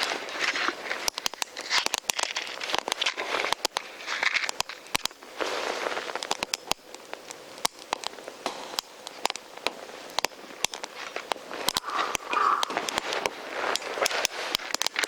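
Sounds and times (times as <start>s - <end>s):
campfire crackling: 0.0s - 15.0s
sharp pops: 0.0s - 15.0s
soft steady hiss: 0.0s - 15.0s.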